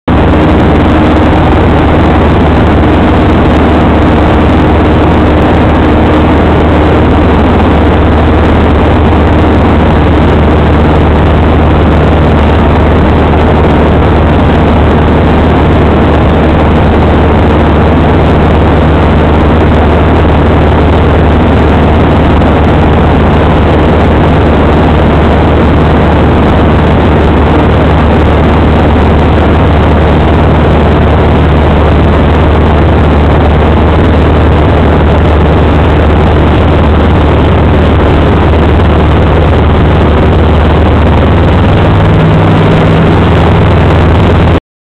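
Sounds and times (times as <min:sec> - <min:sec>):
airplane engine and propeller droning: 0:00.0 - 0:44.6
rushing wind noise: 0:00.0 - 0:44.6.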